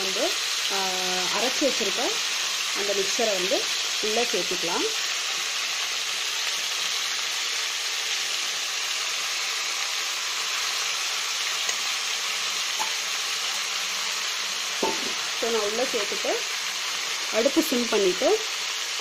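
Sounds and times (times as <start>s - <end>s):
crab frying in hot oil: 0.0s - 19.0s.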